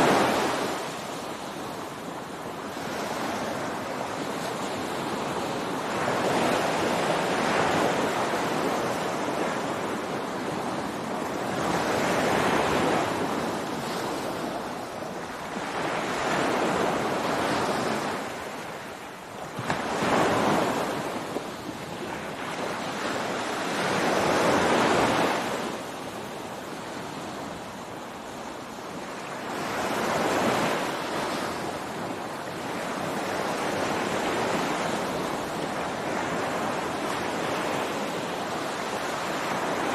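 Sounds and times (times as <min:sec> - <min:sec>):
ocean waves breaking on beach: 0:00.0 - 0:39.9
wind noise on microphone: 0:00.0 - 0:39.9.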